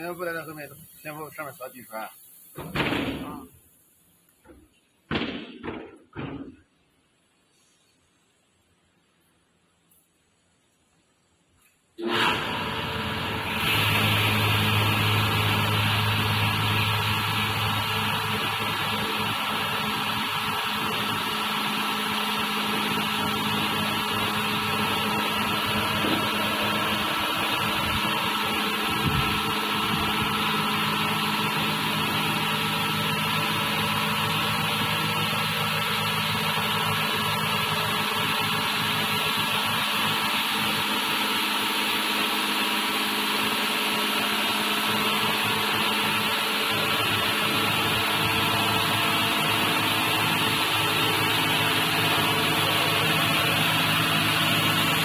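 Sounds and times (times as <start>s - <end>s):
car wash motor hum: 0.0s - 4.6s, 12.0s - 55.0s.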